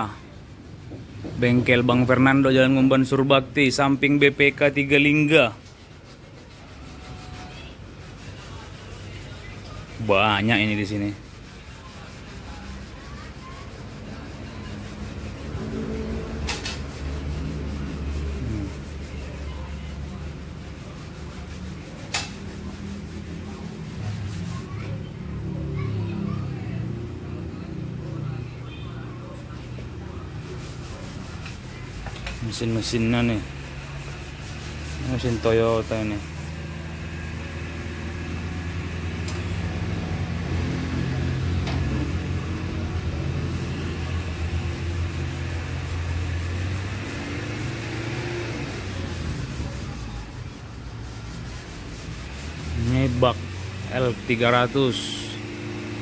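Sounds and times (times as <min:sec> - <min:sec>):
sanding scraping on body filler: 0:00.0 - 0:28.1, 0:29.2 - 0:56.0.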